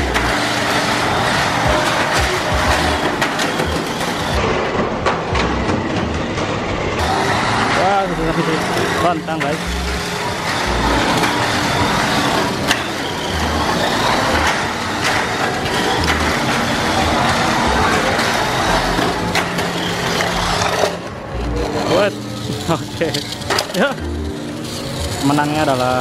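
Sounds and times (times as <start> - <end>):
toy cars clattering on track: 0.0 - 26.0.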